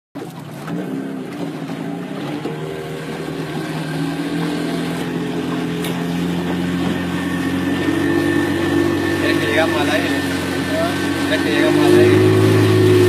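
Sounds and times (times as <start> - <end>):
outboard motor running: 0.2 - 13.0.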